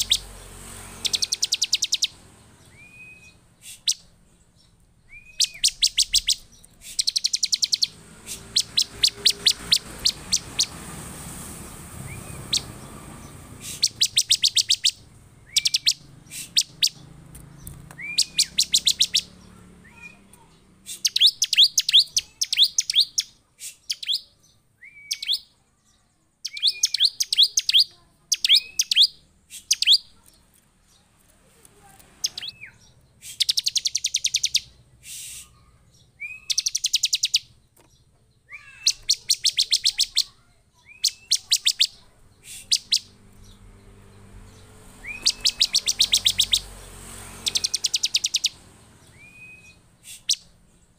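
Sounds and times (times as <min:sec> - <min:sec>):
bird calling rapid high notes: 0:00.0 - 0:04.1, 0:05.0 - 0:10.8, 0:12.0 - 0:17.1, 0:18.0 - 0:25.5, 0:26.4 - 0:30.2, 0:32.2 - 0:37.5, 0:38.5 - 0:43.2, 0:44.5 - 0:50.6.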